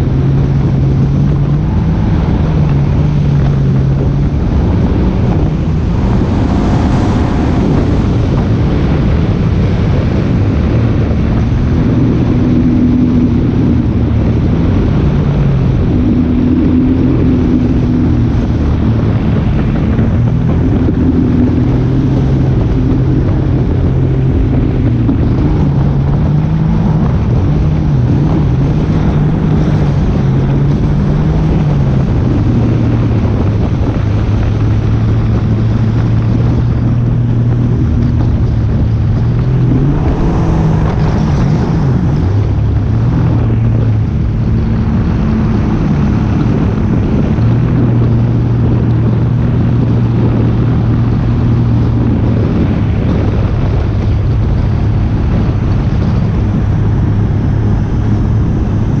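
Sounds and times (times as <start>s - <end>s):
engine running: 0.0s - 59.0s
wind noise on microphone: 0.0s - 59.0s.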